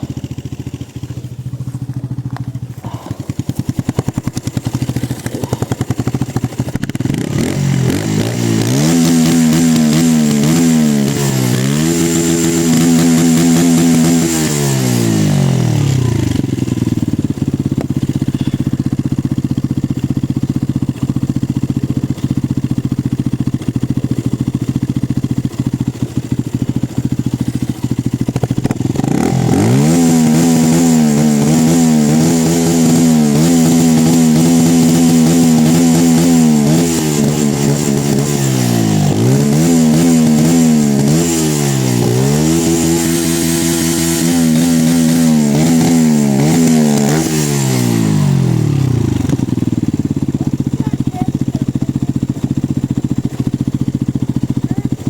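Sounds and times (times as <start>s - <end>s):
motorcycle engine revving and idling: 0.0s - 55.0s.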